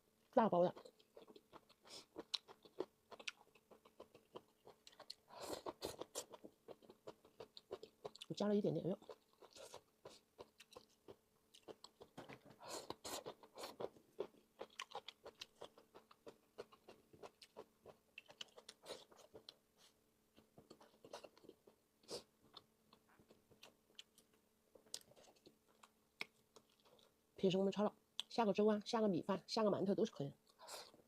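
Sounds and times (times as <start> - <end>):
close-miked chewing: 0.7 - 27.2.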